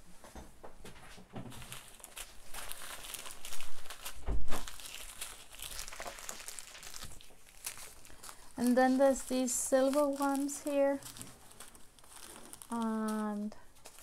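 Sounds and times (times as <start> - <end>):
plastic bags crinkling: 1.5 - 14.0.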